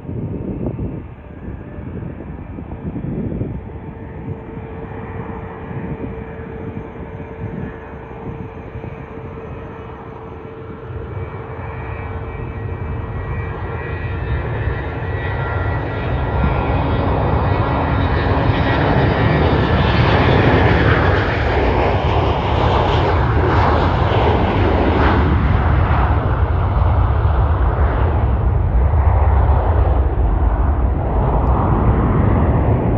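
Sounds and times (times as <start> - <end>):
aircraft engines roaring: 0.0 - 32.9.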